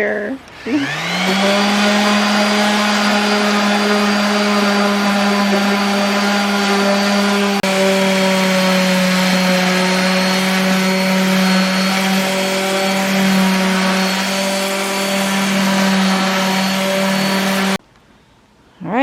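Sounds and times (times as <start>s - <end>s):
electric sander on wood: 0.4s - 17.8s.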